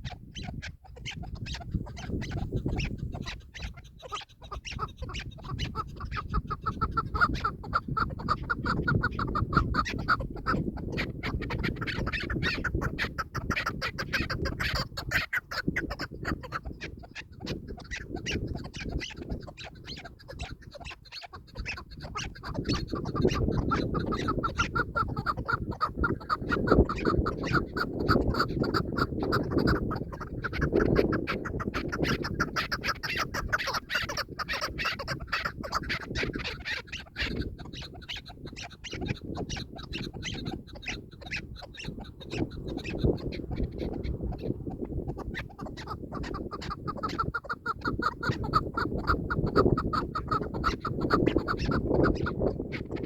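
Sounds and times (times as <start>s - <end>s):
partridge clucking calls: 0.0s - 53.0s.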